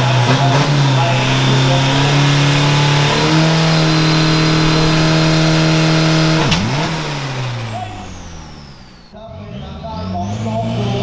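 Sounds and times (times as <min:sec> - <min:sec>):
spinning tyres hissing: 0:00.0 - 0:09.2
truck engine revving high: 0:00.0 - 0:09.2.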